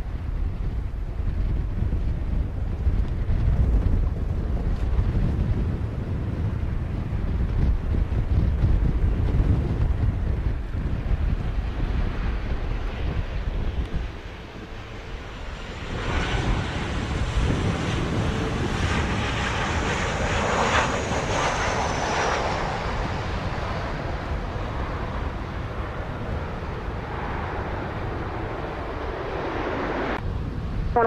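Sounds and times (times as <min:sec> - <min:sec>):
jet engine noise: 0:00.0 - 0:31.0.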